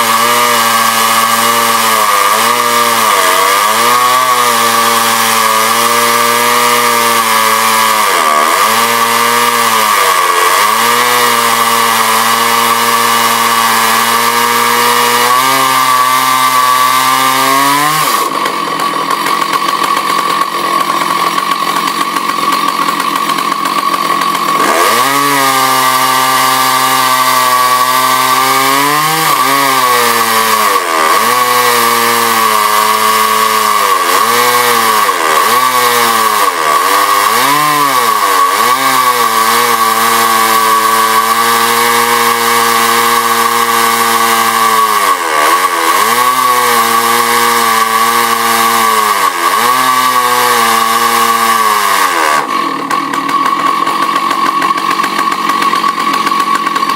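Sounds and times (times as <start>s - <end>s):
chainsaw engine at high revs: 0.0s - 56.9s.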